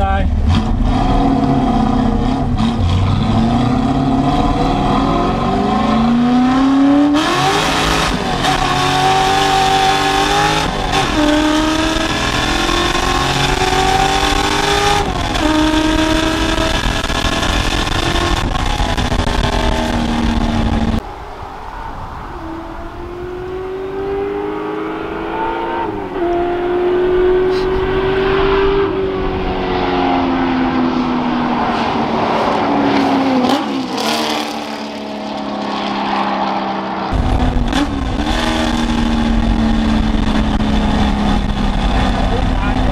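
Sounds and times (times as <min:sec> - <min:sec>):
truck engine accelerating: 0:00.0 - 0:21.1, 0:21.9 - 0:42.9.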